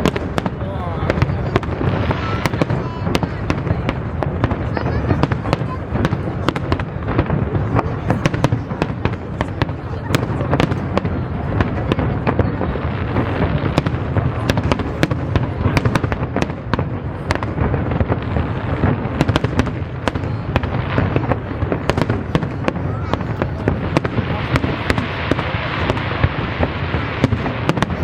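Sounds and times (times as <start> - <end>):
fireworks cracks and bangs: 0.0 - 28.0.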